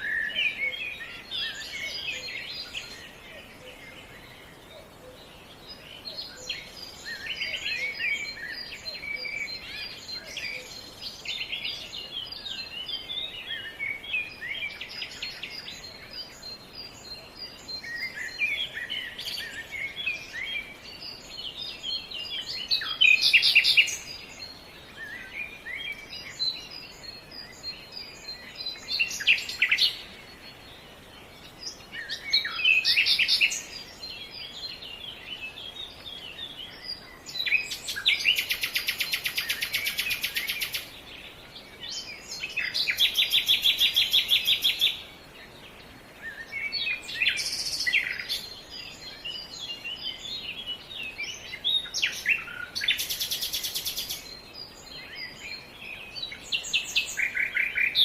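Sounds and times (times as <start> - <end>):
faint background hiss: 0.0 - 58.0
songbirds chirping and trilling: 0.0 - 58.0.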